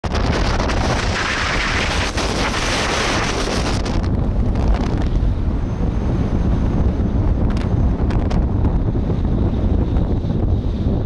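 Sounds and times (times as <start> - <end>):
low road rumble: 0.0 - 11.0
wind buffeting microphone: 0.0 - 11.0.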